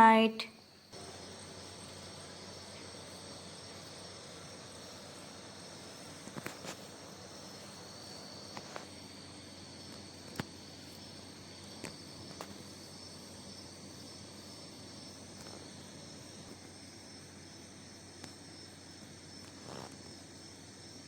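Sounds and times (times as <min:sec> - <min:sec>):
night insects chirring: 0:00.0 - 0:21.0.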